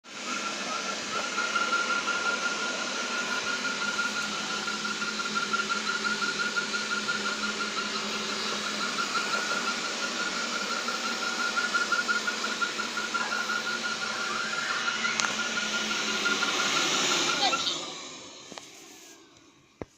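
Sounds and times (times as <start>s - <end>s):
vacuum cleaner whirring: 0.0s - 19.9s.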